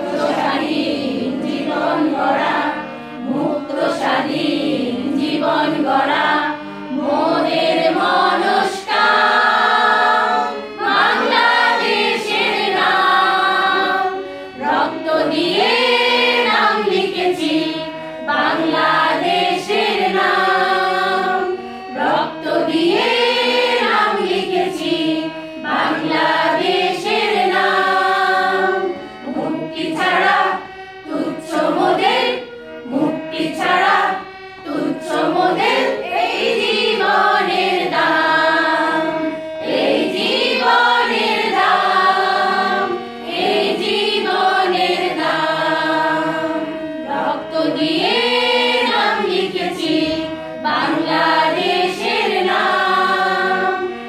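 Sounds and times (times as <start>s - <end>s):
women singing in unison: 0.0s - 54.0s.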